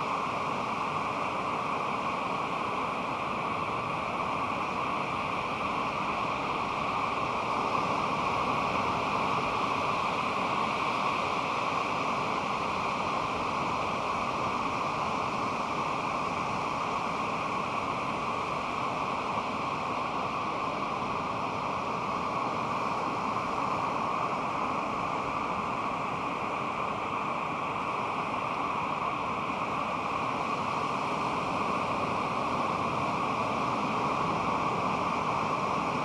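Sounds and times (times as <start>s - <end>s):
surf washing on a beach: 0.0s - 36.0s.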